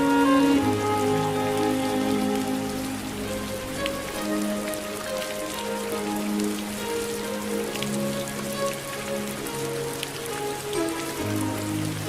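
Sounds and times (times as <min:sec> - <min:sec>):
slow instrumental hymn: 0:00.0 - 0:12.0
steady rain: 0:00.0 - 0:12.0.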